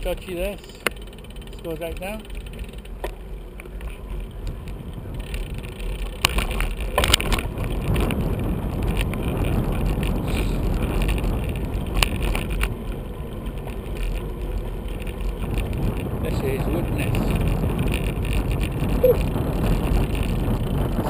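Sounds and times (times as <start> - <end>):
bike knocks and rattles: 0.0 - 21.0
tyre and wind rumble: 0.0 - 21.0.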